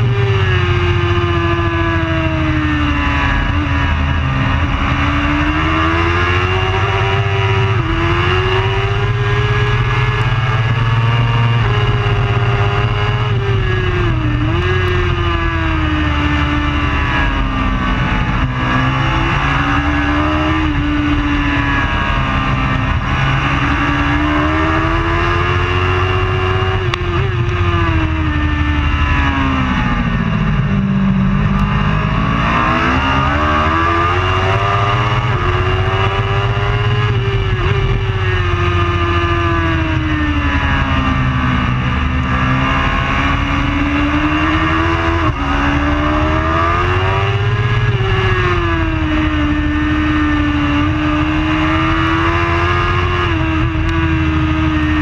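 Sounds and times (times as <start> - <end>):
superbike engine running hard: 0.0 - 55.0.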